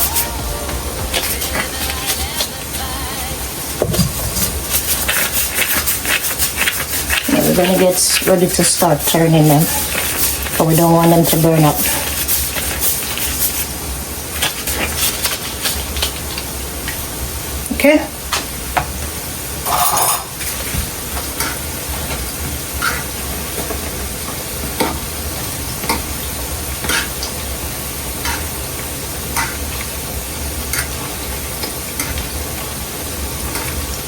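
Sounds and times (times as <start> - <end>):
dumplings sizzling in oil: 0.0 - 34.0.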